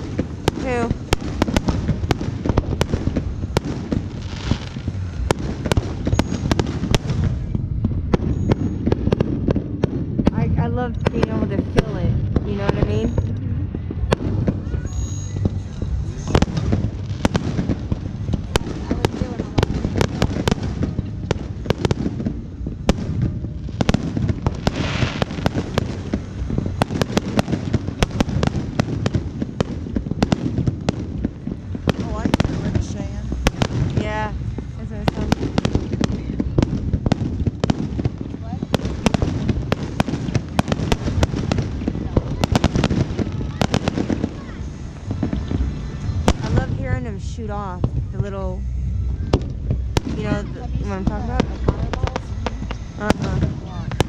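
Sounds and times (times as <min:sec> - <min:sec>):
fireworks bangs and cracks: 0:00.0 - 0:54.0
low rumble of bursts: 0:00.0 - 0:54.0.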